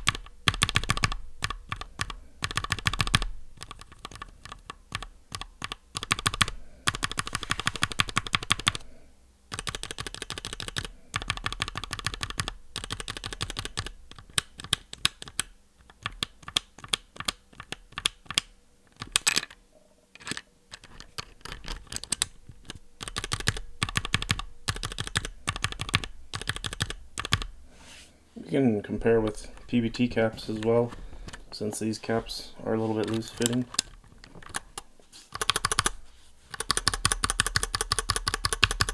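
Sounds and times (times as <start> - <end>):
mechanical keyboard keystrokes: 0.0 - 8.9, 9.5 - 19.6, 20.2 - 27.5, 33.0 - 38.9.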